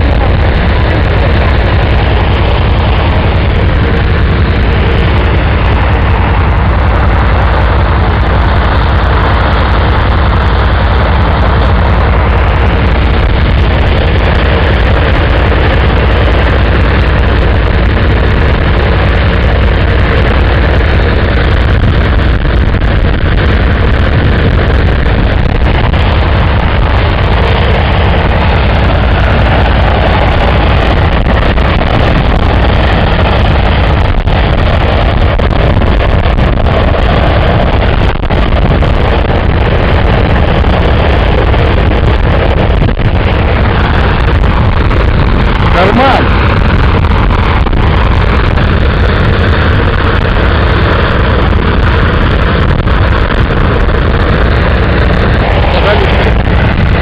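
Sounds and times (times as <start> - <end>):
radial piston engine running: 0.0 - 57.0.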